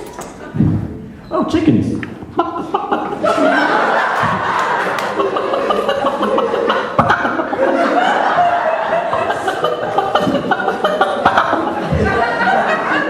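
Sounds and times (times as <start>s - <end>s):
people chuckling and laughing: 2.2s - 13.0s.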